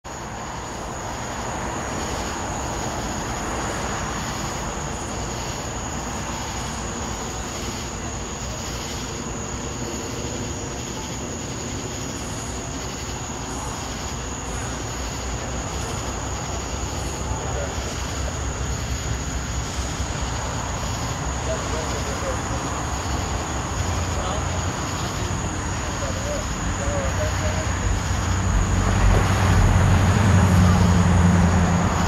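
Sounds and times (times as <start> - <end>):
diesel locomotive engine drone: 0.1 - 32.0.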